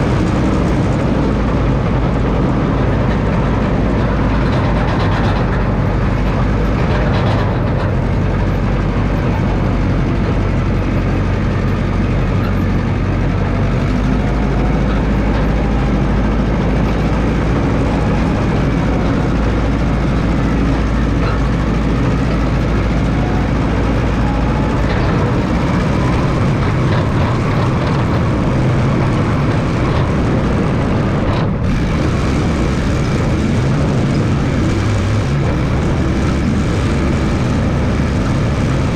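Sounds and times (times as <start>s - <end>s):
dozer engine running: 0.0s - 38.9s.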